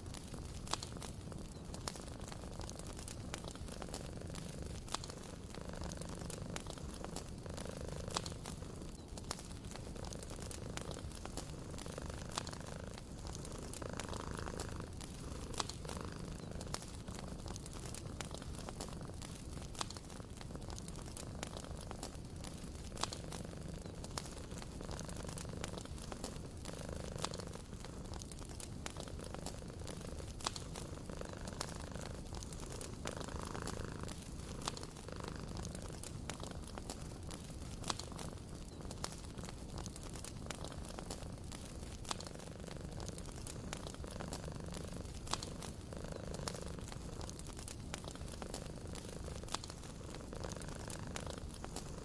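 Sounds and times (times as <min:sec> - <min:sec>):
cat purring: 0:00.0 - 0:52.0
wood fire crackling and popping: 0:00.0 - 0:52.0.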